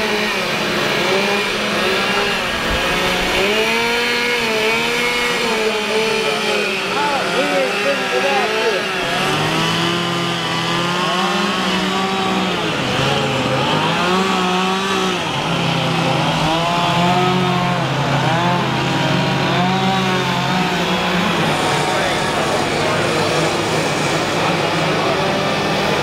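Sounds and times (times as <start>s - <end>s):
chainsaws revving: 0.0s - 26.0s.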